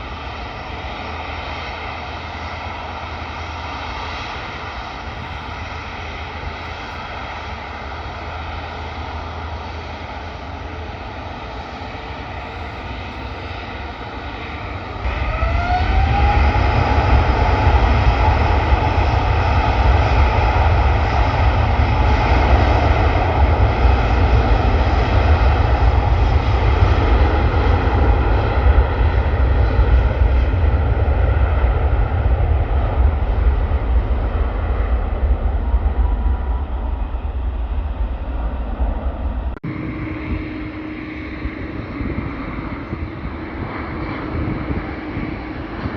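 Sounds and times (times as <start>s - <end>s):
deep jet engine rumble: 0.0s - 45.9s
jet engines whining: 0.0s - 45.9s.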